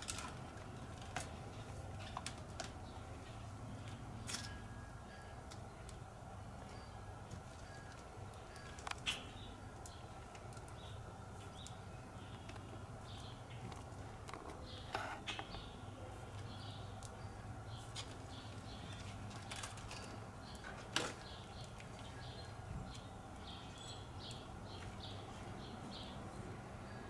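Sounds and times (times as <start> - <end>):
steady low hum: 0.0 - 27.0
birds chirping: 0.6 - 27.0.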